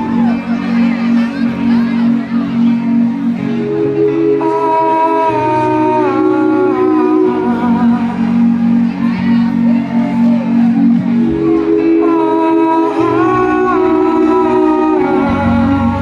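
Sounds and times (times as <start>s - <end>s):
deep bass line: 0.0s - 16.0s.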